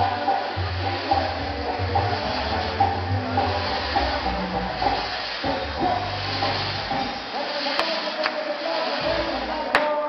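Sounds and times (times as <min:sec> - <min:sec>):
band bass notes: 0:00.0 - 0:07.6, 0:08.8 - 0:10.0
fireworks hissing sparks: 0:00.0 - 0:10.0.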